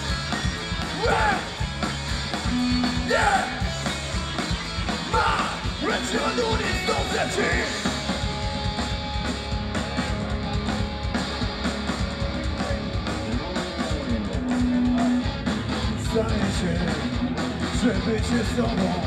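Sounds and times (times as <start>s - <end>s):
drum kit: 0.0s - 19.0s
electric guitars strumming: 0.0s - 19.0s.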